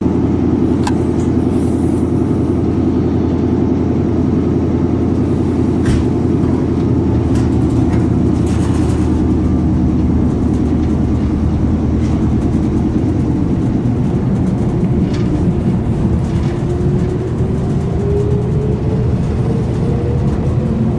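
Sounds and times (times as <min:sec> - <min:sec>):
train rumbling on rails: 0:00.0 - 0:20.9
rising whine: 0:00.6 - 0:20.9.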